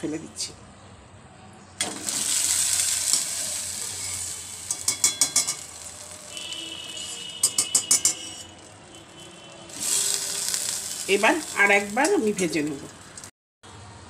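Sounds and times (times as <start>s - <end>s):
hot oil sizzling: 1.8s - 13.3s.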